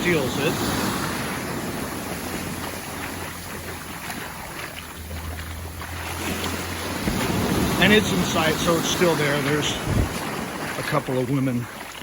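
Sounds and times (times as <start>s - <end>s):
ocean surf on a beach: 0.0s - 12.0s
wind rumbling on microphone: 0.0s - 12.0s.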